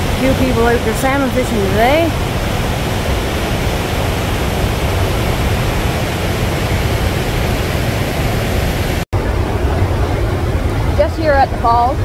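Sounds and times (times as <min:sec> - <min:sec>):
water roaring over rocks: 0:00.0 - 0:12.0.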